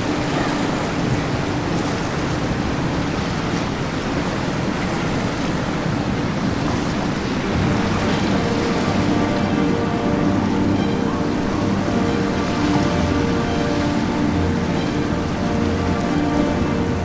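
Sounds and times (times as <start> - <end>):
boat engines rumbling: 0.0 - 17.0
boat hull wash and spray: 0.0 - 17.0.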